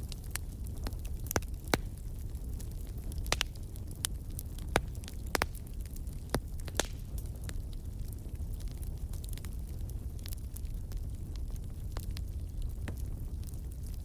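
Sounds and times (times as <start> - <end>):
fire popping and crackling: 0.0 - 14.0
low rumble of flames: 0.0 - 14.0.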